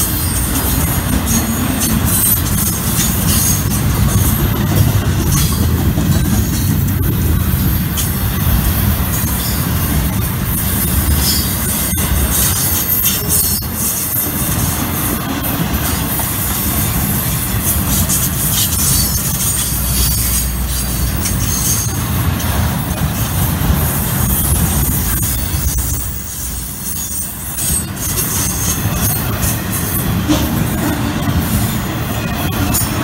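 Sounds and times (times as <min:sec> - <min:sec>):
steel wheels rumbling on rail: 0:00.0 - 0:33.0.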